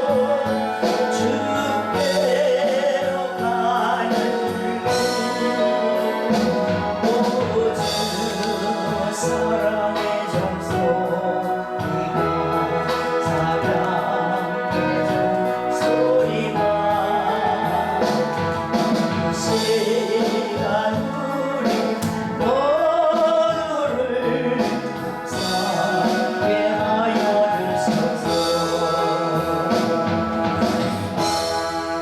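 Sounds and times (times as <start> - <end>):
instrumental accompaniment: 0.0 - 32.0
person singing: 0.0 - 32.0.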